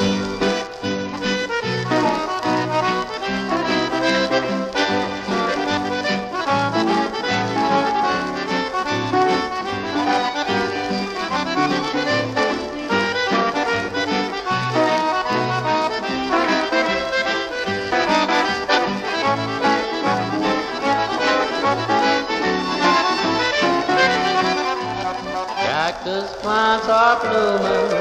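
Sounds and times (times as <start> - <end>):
instrumental western cowboy music: 0.0 - 28.0.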